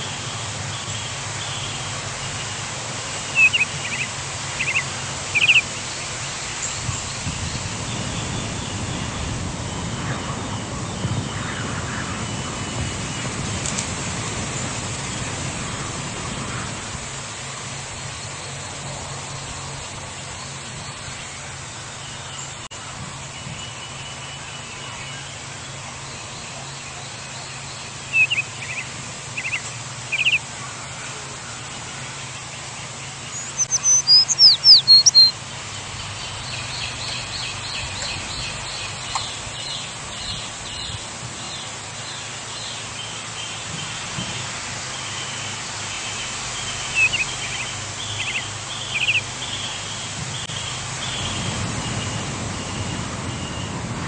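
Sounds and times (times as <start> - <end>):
small birds chirping: 0.0 - 53.8.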